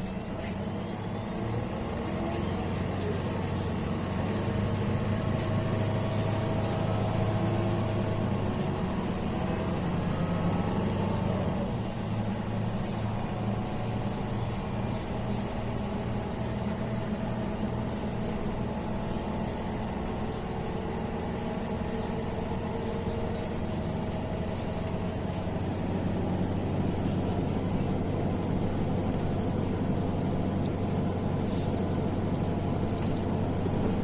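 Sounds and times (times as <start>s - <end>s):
bus engine drone: 0.0s - 34.0s.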